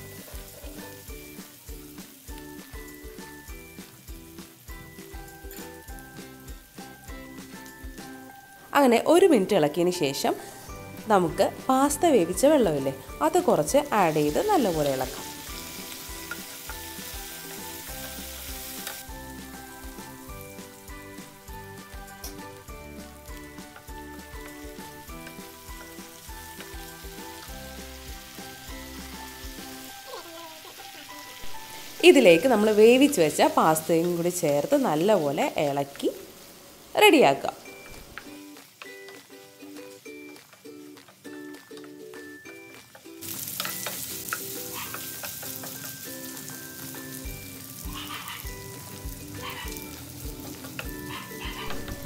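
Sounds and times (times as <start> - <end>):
background music with steady beat: 0.0 - 34.2, 37.7 - 52.0
sauce sizzling in a frying pan: 0.0 - 52.0.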